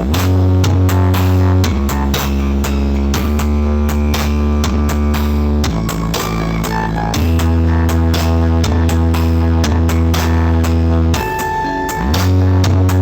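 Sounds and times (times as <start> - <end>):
loud electronic dance music: 0.0 - 13.0.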